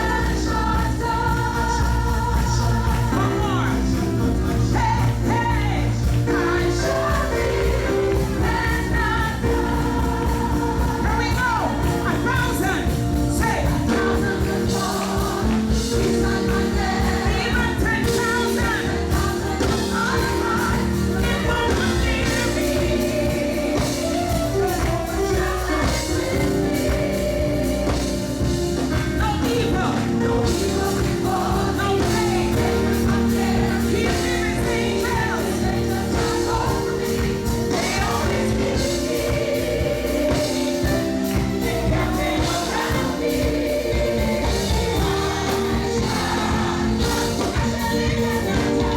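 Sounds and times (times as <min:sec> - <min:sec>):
gospel band and choir singing: 0:00.0 - 0:48.9.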